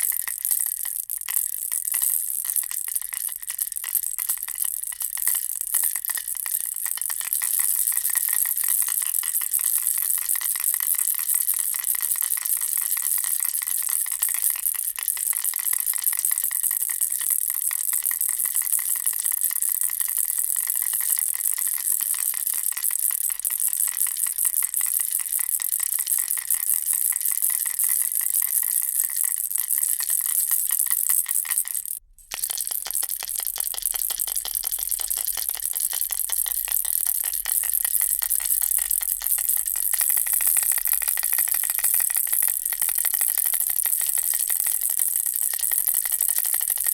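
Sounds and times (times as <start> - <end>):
baby rattle shaken: 0.0 - 46.9.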